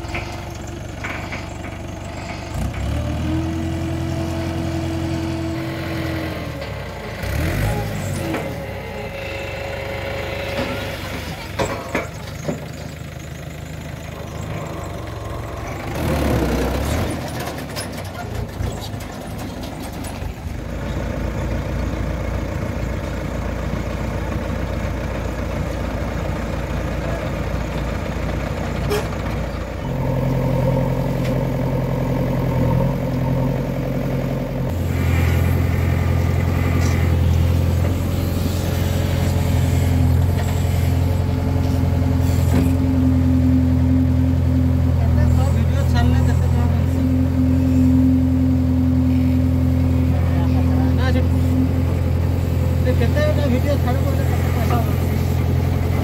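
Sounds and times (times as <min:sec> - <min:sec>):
deep engine drone: 0:00.0 - 0:17.8, 0:20.4 - 0:56.0
diesel engines running: 0:00.0 - 0:56.0.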